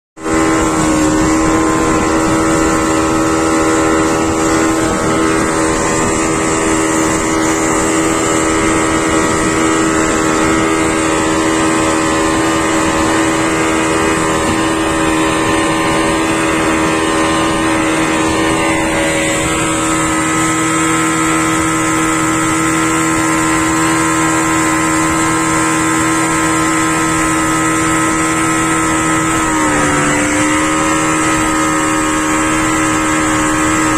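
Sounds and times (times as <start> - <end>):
outboard motor running: 0.2 - 33.9
water rushing past hull: 0.2 - 33.9.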